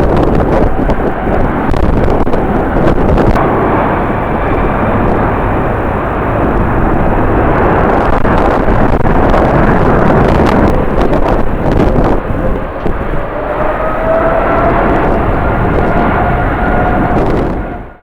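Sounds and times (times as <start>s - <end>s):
high whine: 0.0s - 18.0s
jet engines roaring: 0.0s - 18.0s
wind buffeting microphone: 0.0s - 18.0s.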